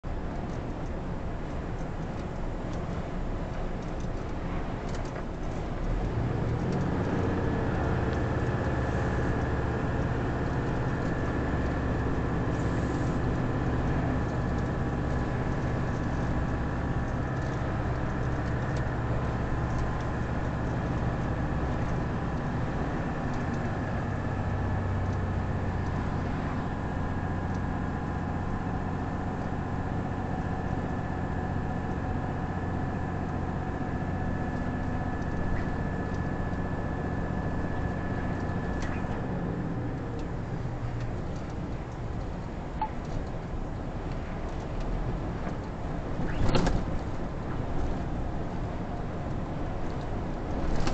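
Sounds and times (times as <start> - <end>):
lorry engine drone: 0.0 - 50.9
tyre road noise: 0.0 - 50.9.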